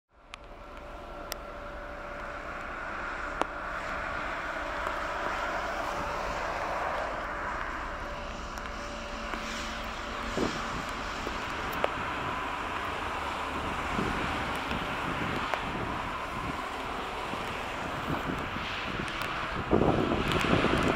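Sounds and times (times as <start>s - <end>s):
distant jet engines roaring: 0.2s - 20.9s.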